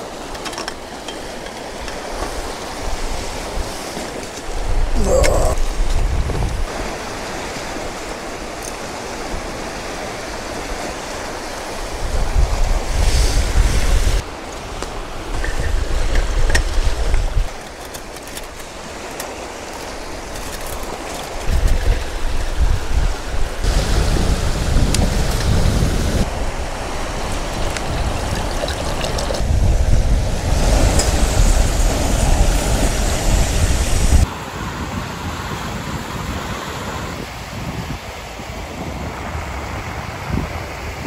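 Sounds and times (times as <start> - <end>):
waves breaking on rocks: 0.0 - 35.0
wind buffeting microphone: 0.0 - 41.0.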